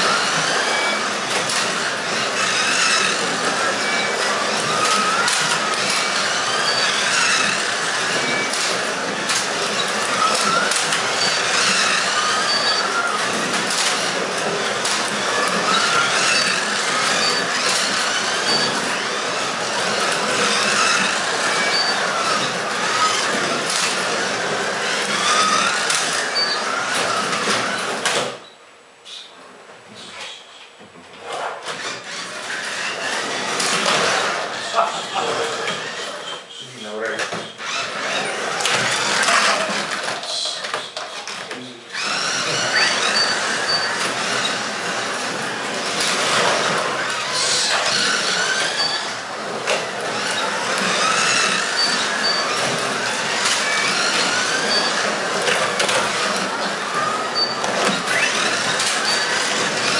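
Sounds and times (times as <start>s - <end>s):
rattle of cars and track: 0.0s - 28.4s, 31.2s - 36.4s, 37.1s - 59.9s
slot car motors whining: 0.0s - 28.4s, 31.6s - 59.9s.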